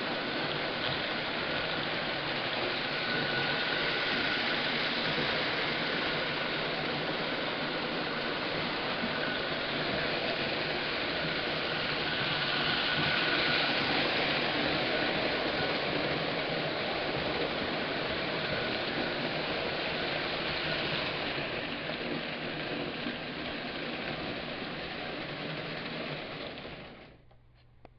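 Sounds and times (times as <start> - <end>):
toy trains rolling on track: 0.0 - 27.2.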